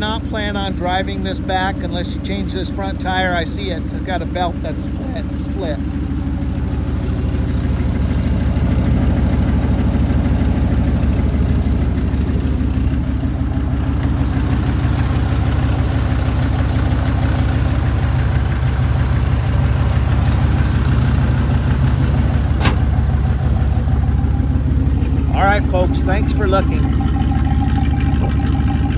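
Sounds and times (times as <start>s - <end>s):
loud raw exhaust: 0.0s - 28.9s
pickup engine idling: 0.0s - 28.9s.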